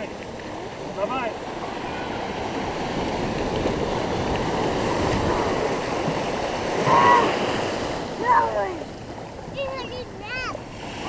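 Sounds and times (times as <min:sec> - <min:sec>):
small waves breaking: 0:00.0 - 0:11.0.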